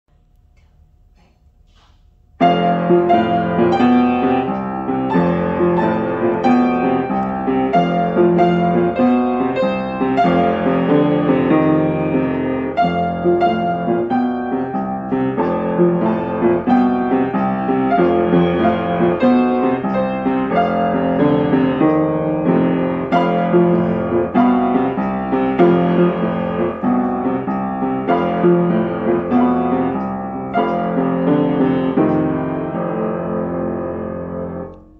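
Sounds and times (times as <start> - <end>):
solo piano piece: 0.6 - 34.9.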